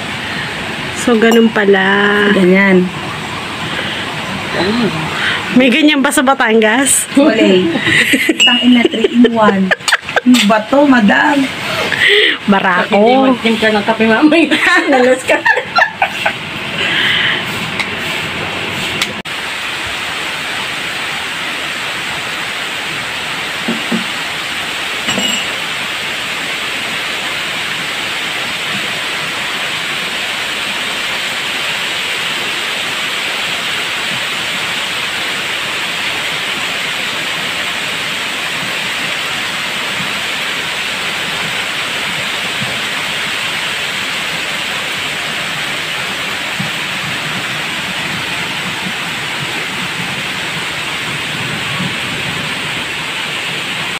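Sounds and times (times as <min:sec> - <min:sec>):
steady rain hiss: 0:00.0 - 0:53.9.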